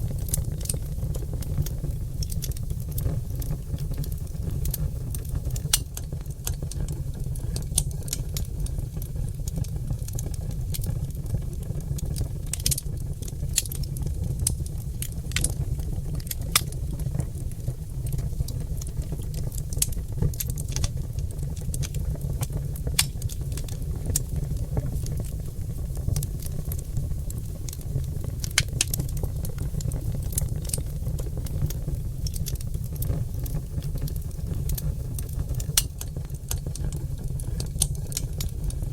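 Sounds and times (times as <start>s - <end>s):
logs crackling and popping: 0.0s - 38.9s
low fire rumble: 0.0s - 38.9s.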